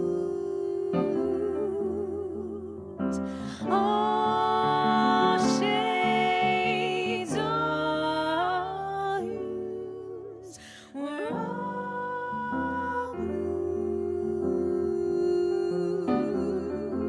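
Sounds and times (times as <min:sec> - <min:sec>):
piano accompaniment: 0:00.0 - 0:17.0
women singing in harmony: 0:00.0 - 0:17.0.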